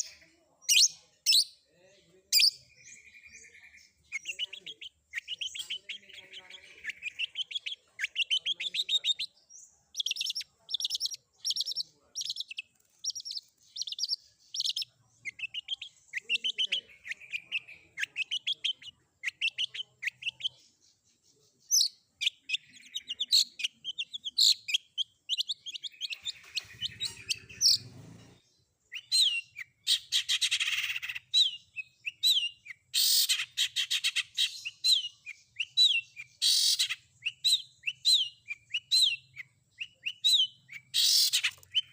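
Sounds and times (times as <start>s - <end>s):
shrike singing chirps and trills: 0.0s - 41.9s.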